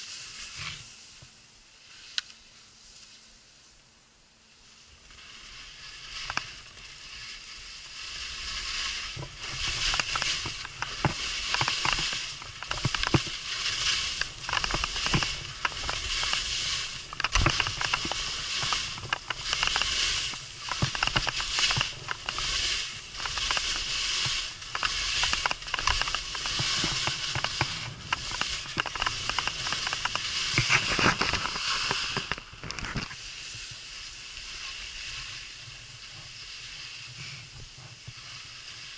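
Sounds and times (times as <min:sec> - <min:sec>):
skis scraping over snow: 0:00.0 - 0:03.3, 0:04.6 - 0:38.9
ski edges chattering: 0:05.2 - 0:37.5.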